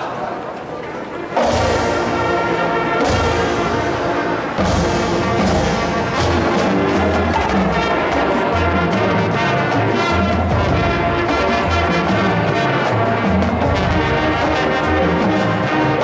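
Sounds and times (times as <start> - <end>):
marching band brass chords: 0.0 - 16.0
drum strikes: 1.3 - 15.9.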